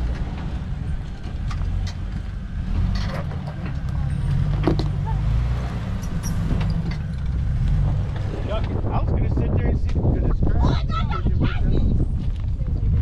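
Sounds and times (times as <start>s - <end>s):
engine running at low revs: 0.0s - 10.6s.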